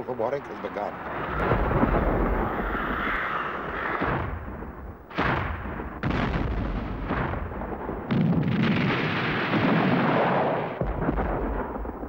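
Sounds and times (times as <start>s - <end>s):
cannon blasts with rumble: 1.2s - 2.9s, 3.6s - 12.0s.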